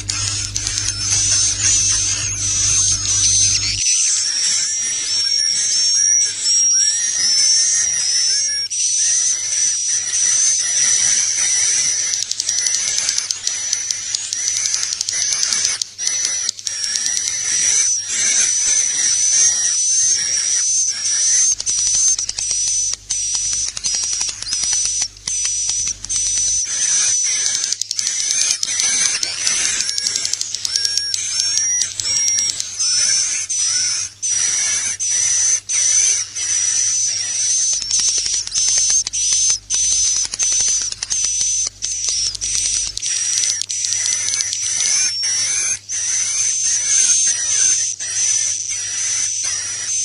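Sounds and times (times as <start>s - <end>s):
rapid clicking: 0.0s - 8.1s, 9.2s - 47.1s
birds twittering: 0.0s - 50.0s.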